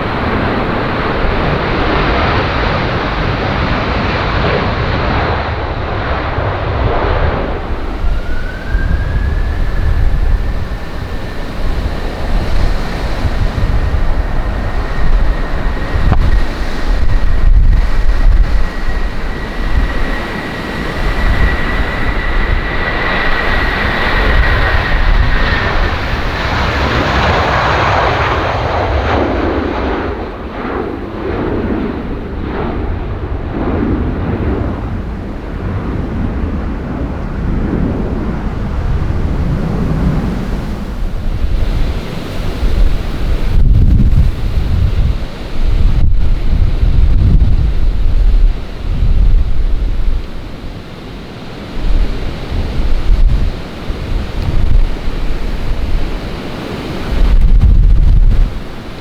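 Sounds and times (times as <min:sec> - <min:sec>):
airliner engines rumbling and whining: 0:00.0 - 0:59.0
wind buffeting microphone: 0:00.0 - 0:59.0.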